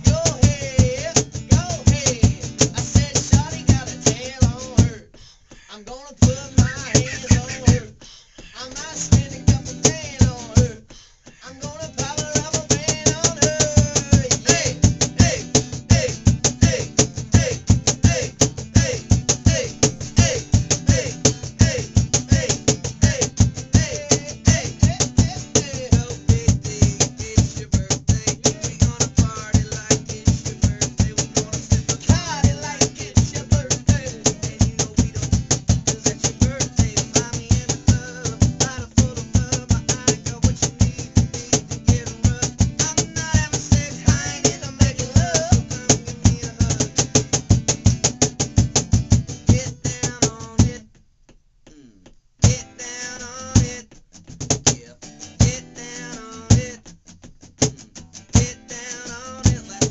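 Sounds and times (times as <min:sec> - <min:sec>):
fast percussion beat: 0:00.0 - 0:50.8, 0:51.7 - 0:59.9
acoustic guitar: 0:00.0 - 0:59.9.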